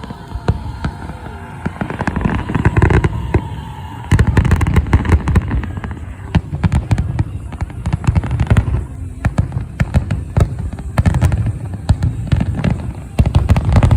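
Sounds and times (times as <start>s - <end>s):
fireworks popping and crackling: 0.0s - 13.9s.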